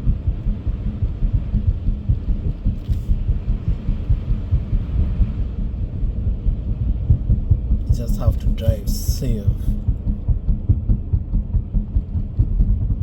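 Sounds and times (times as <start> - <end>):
car driving heard from cabin: 0.0 - 13.0.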